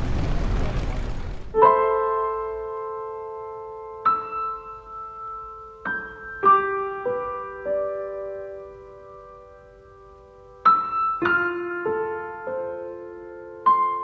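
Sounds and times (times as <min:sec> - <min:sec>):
slow soft piano: 0:01.5 - 0:14.0.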